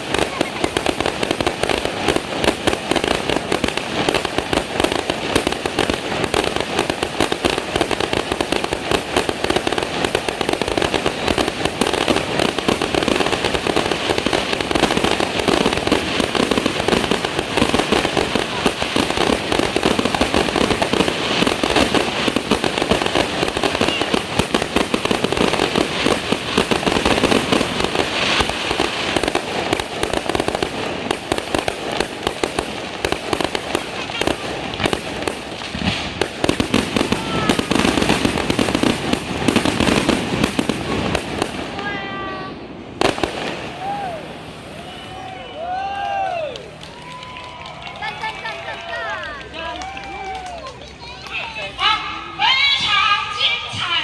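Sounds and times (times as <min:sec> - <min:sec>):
fireworks crackling bangs: 0:00.0 - 0:54.0.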